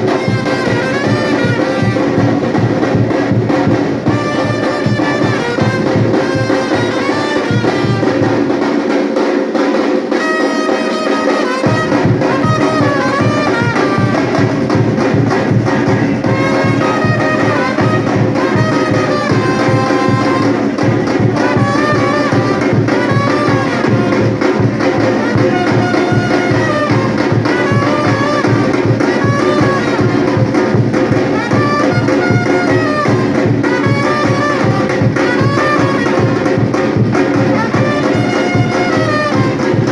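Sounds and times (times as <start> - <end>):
brass melody: 0.0 - 9.0, 9.7 - 39.9
fast drum rhythm: 0.0 - 39.9.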